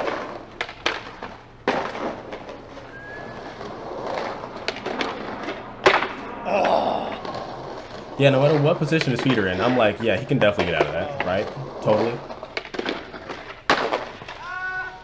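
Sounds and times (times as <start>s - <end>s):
skateboard clacking on ground: 0.0s - 15.0s
skateboard wheels rolling on cobblestones: 0.0s - 15.0s.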